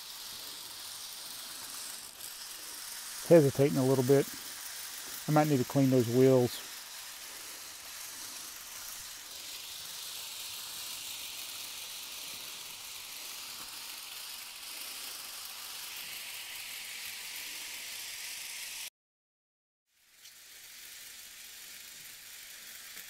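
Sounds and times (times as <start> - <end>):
model train running on rails: 0.0 - 18.9, 20.0 - 23.0.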